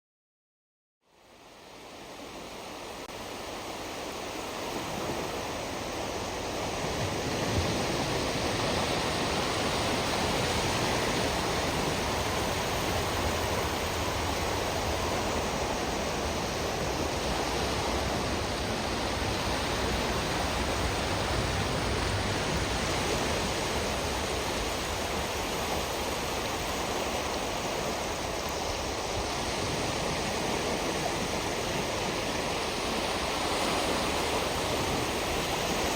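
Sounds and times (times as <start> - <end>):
surf washing on shore: 1.1 - 35.9.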